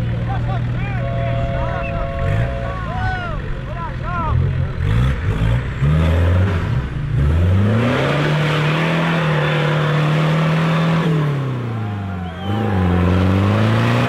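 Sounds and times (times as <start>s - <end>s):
suv engine revving hard: 1.0s - 3.4s, 4.2s - 14.0s.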